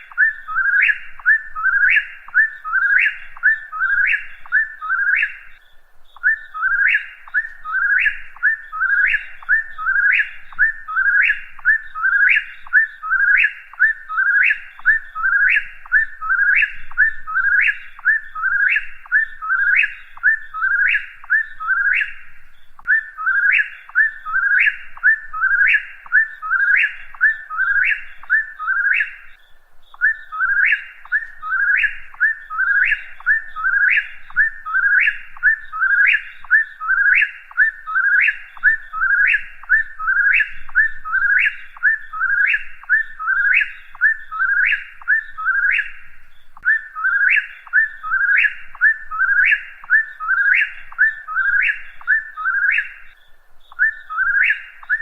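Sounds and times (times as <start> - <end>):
bird whistling three-note song: 0.0 - 55.0.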